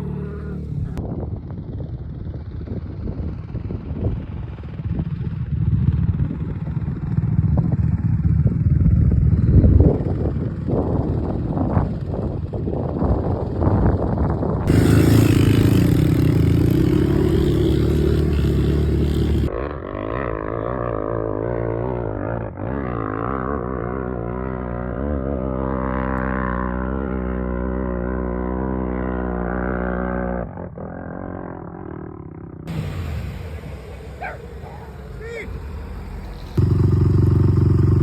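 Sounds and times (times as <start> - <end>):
off-road vehicle engines running: 0.0 - 38.0.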